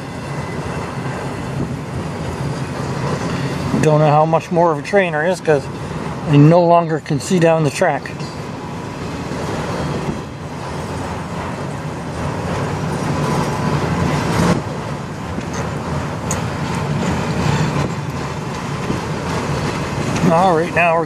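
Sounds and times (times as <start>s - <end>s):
train wheels rumbling on rails: 0.0s - 21.0s
wind gusting around van: 0.0s - 21.0s.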